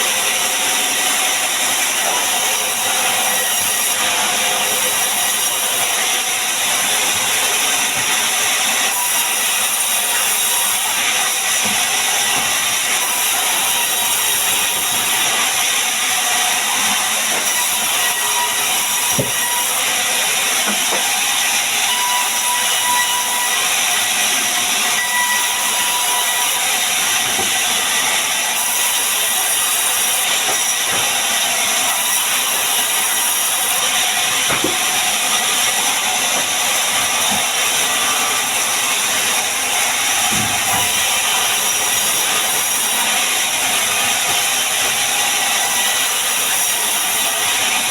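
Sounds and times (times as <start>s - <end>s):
power tool cutting wood: 0.0s - 47.9s.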